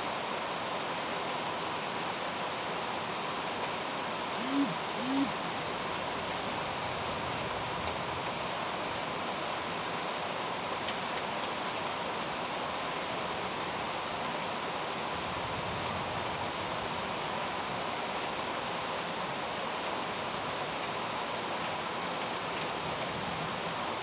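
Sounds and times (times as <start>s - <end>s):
rain on leafy vegetation: 0.0s - 24.0s.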